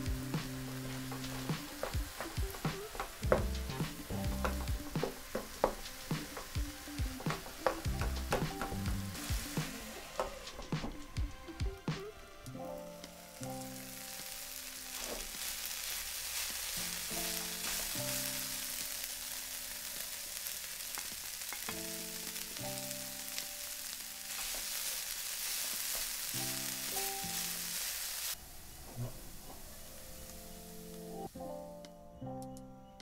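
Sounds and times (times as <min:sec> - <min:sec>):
food sizzling in hot oil: 0:00.0 - 0:12.2, 0:12.9 - 0:31.4
background music: 0:00.0 - 0:20.3, 0:21.6 - 0:24.8, 0:28.9 - 0:33.0.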